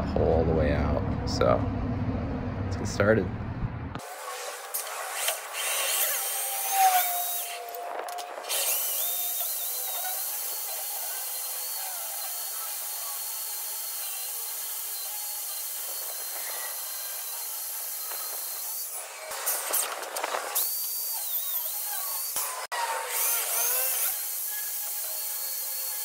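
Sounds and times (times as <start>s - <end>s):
sped-up drill whine: 4.0s - 26.0s.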